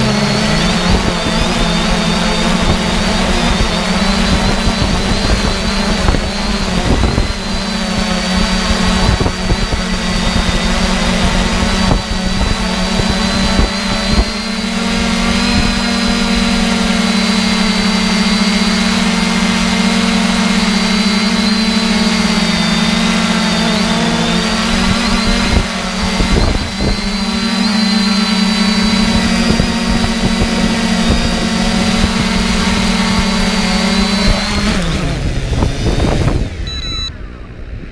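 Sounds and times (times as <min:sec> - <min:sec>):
quadcopter motors buzzing: 0:00.0 - 0:37.9.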